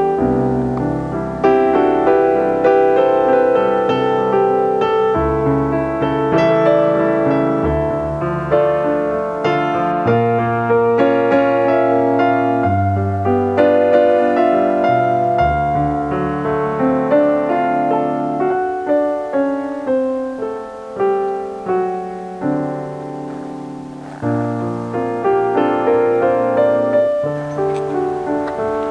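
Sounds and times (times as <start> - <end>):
piano music: 0.0 - 28.9.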